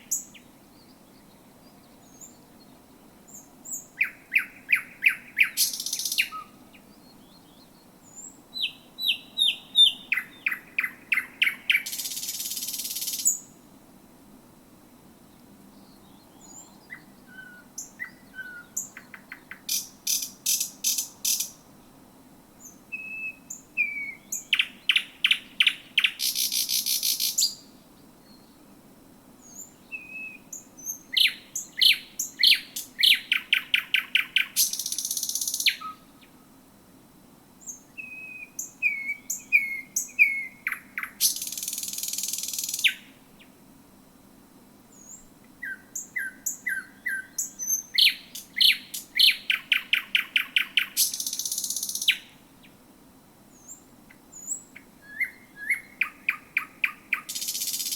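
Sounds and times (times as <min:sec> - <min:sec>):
nightingale singing: 0:00.0 - 0:13.6, 0:15.3 - 0:21.7, 0:22.6 - 0:28.7, 0:29.4 - 0:36.4, 0:37.6 - 0:43.6, 0:44.9 - 0:52.8, 0:53.5 - 0:57.9.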